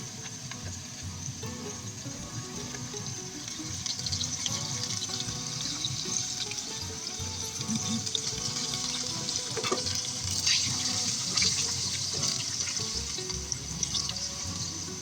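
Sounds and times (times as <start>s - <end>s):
potato sticks deep-frying in oil: 0.0s - 15.0s.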